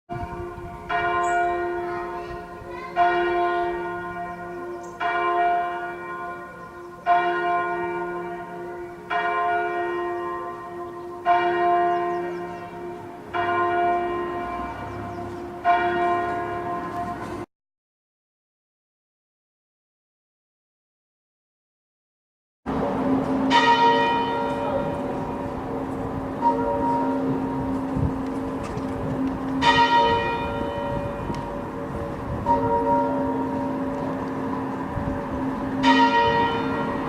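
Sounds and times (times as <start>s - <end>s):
church bell tolling: 0.1s - 17.5s, 22.7s - 37.0s.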